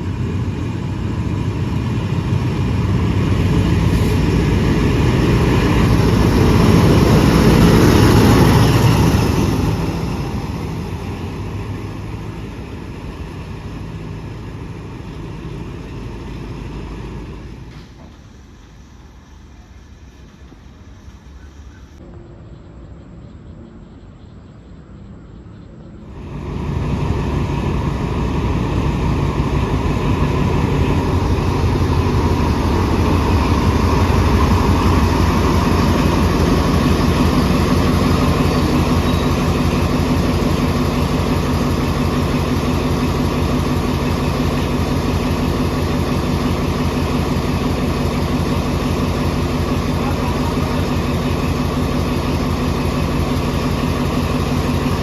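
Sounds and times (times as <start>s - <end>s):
diesel train engine running: 0.0s - 55.0s.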